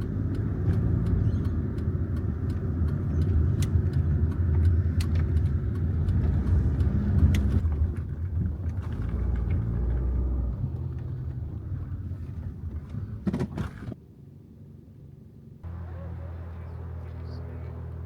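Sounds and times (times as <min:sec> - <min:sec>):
vehicle rumble in motion: 0:00.0 - 0:18.0.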